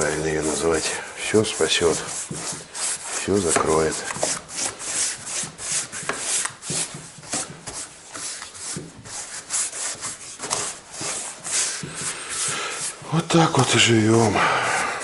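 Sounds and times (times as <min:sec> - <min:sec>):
rubbing strokes on wood: 0:00.0 - 0:15.0.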